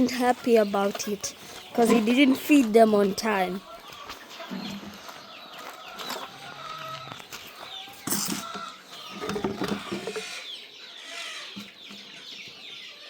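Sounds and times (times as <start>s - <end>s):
chicks peeping: 0.0s - 13.0s
hens clucking: 0.0s - 13.0s.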